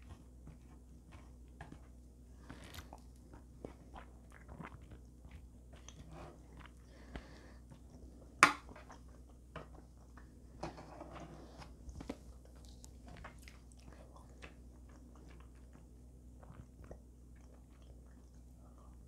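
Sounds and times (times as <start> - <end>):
person chewing: 0.0 - 10.3, 11.7 - 19.0.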